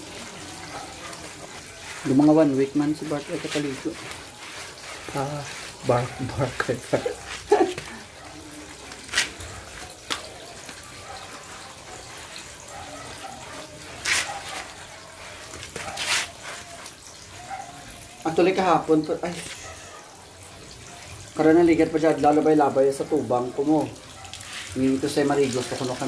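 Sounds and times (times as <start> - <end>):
water running from a tap: 0.0 - 26.0
water splashing: 0.0 - 26.0.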